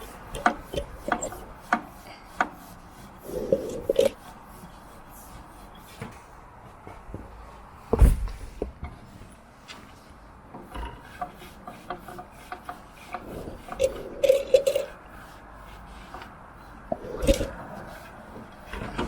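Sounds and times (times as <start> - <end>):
rubbing and scraping: 0.0 - 6.4, 8.4 - 19.0.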